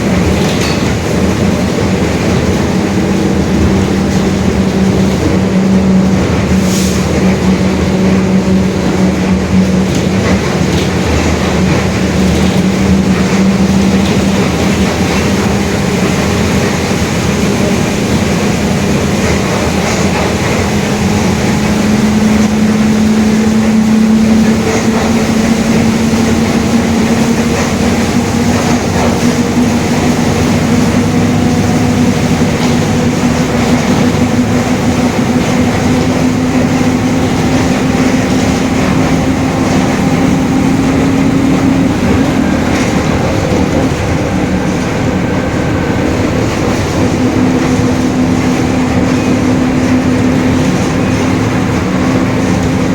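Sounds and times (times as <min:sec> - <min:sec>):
bus differential whine: 0:00.0 - 0:52.9
drivetrain and road rumble: 0:00.0 - 0:52.9.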